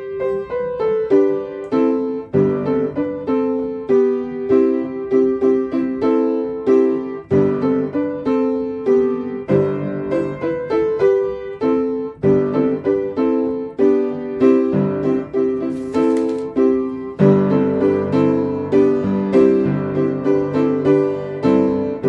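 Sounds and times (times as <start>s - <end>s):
piano playing hymn chords: 0.0s - 22.0s.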